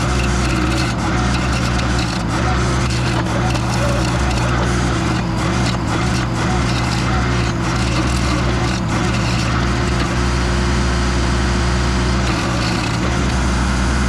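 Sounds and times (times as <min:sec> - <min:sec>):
stump grinder grinding wood: 0:00.0 - 0:14.0.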